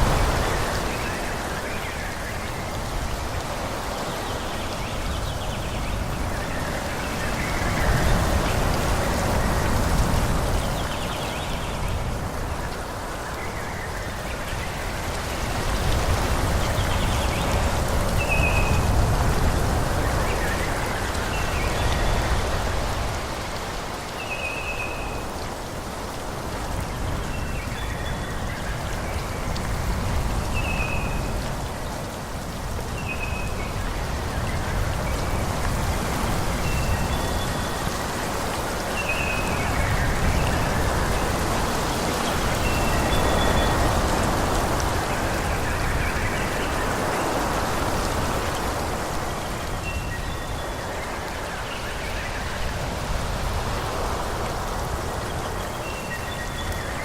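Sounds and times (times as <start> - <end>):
wind blowing through trees: 0.0 - 57.0.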